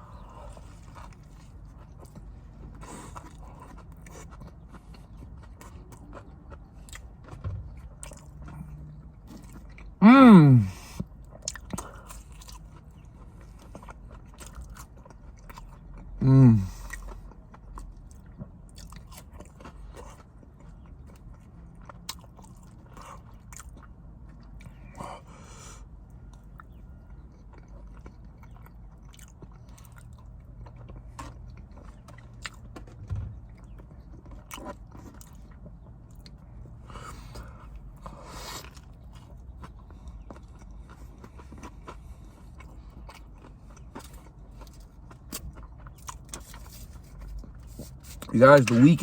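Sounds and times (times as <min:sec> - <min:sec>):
person chewing and biting food: 0:00.0 - 0:10.0, 0:10.6 - 0:25.2, 0:26.2 - 0:48.8.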